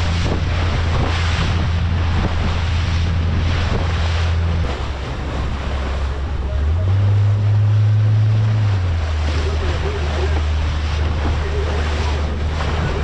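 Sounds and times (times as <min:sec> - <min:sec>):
outboard motor droning: 0:00.0 - 0:13.0
water rushing: 0:00.0 - 0:13.0
wind on microphone: 0:00.0 - 0:13.0.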